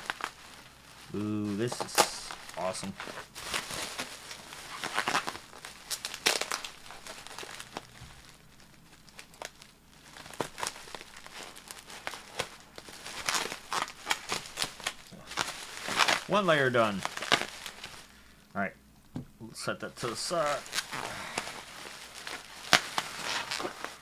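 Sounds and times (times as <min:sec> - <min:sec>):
bubble wrap crinkling and tearing: 0:00.0 - 0:18.3, 0:19.8 - 0:24.0.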